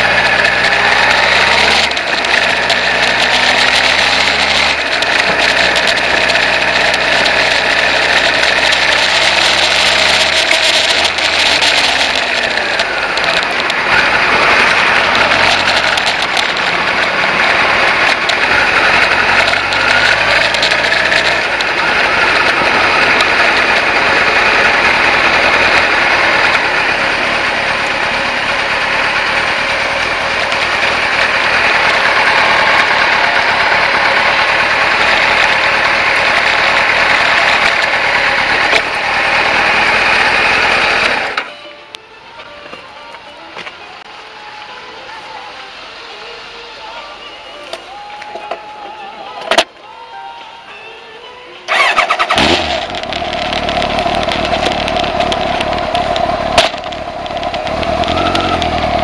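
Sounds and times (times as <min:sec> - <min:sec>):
motorcycle engine running: 0:00.0 - 0:46.1, 0:51.7 - 0:59.0.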